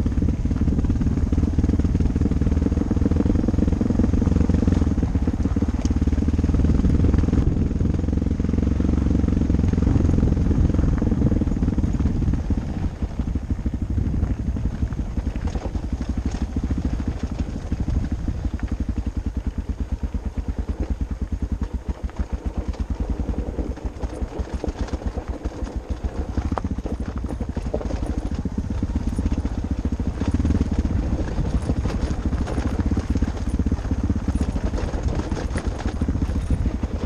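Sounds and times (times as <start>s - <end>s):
motorcycle engine chugging: 0.0s - 37.0s.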